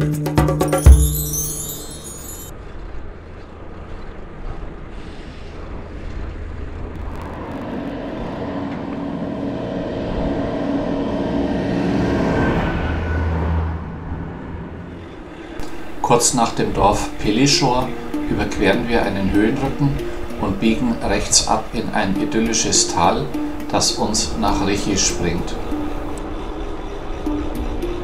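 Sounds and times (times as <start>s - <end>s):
wind: 1.1s - 28.0s
road rumble: 2.0s - 28.0s
car passing: 3.0s - 28.0s.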